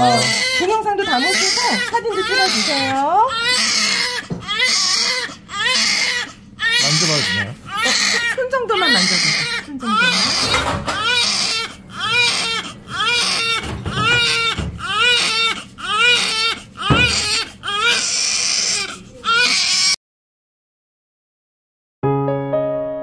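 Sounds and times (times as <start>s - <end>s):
newborn baby crying: 0.0s - 20.0s.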